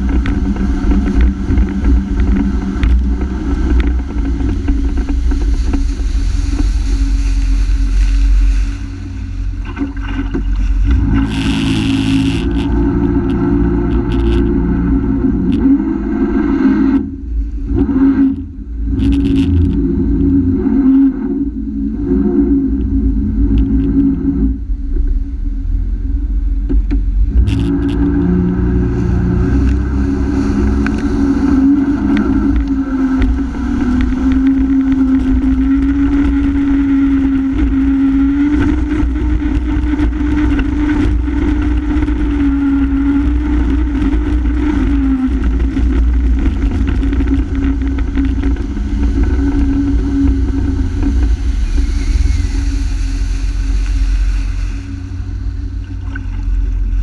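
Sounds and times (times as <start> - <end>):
jet ski engine under throttle: 0.0 - 57.0.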